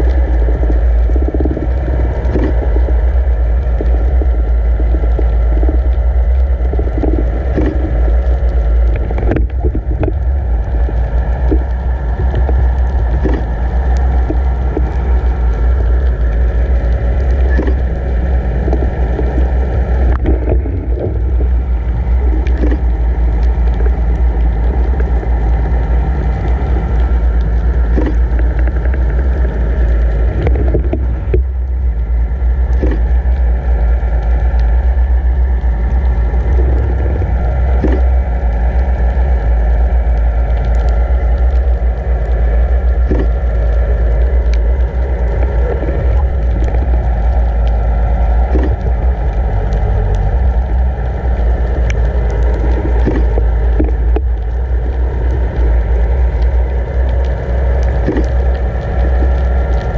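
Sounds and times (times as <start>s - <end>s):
boat motor rumble underwater: 0.0s - 59.9s
water rushing: 0.0s - 59.9s.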